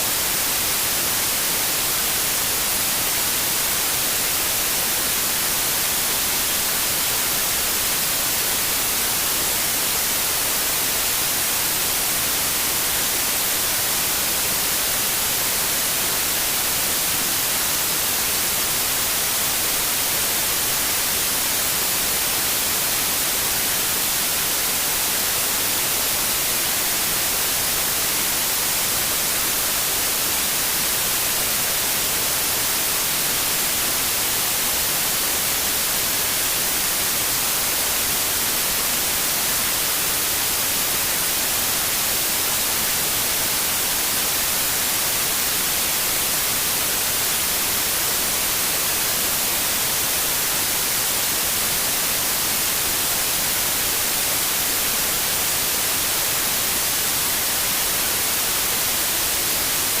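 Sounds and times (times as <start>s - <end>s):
white noise hiss: 0.0s - 60.0s.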